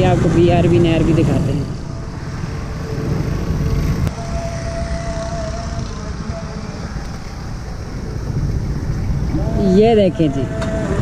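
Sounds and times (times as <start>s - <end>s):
engine rumble: 0.0s - 11.0s
wind on microphone: 0.0s - 11.0s.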